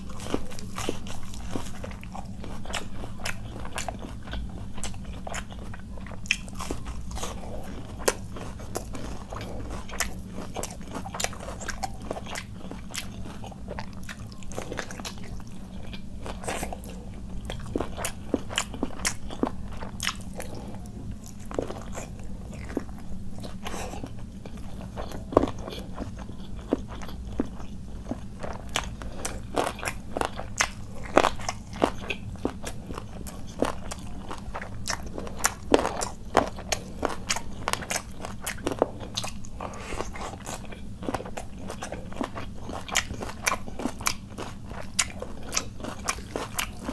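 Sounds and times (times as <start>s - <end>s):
low steady hum: 0.0s - 46.9s
person chewing food: 0.0s - 46.9s.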